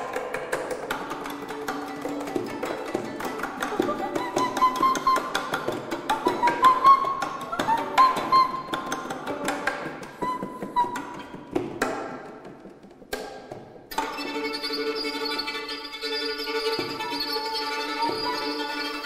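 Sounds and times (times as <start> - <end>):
violin plucked and bowed: 0.0 - 19.0.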